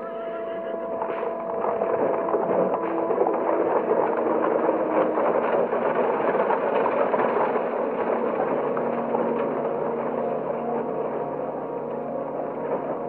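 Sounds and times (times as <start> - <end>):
horses' hooves: 0.0 - 13.0
wooden carts rattling over stone: 0.0 - 13.0.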